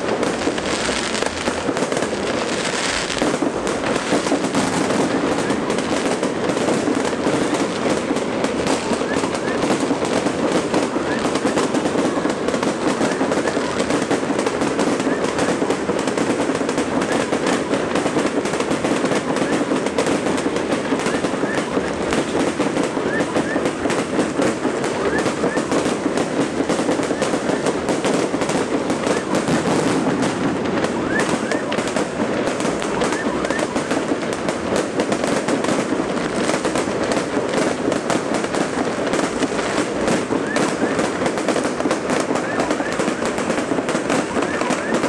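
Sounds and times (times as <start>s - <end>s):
crowd voices: 0.0s - 45.0s
fireworks crackling: 0.0s - 45.0s.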